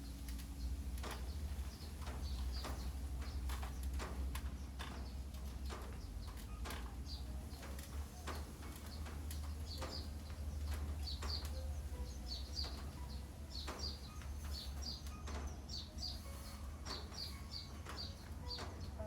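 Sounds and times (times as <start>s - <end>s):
birds chirping: 0.6s - 19.0s.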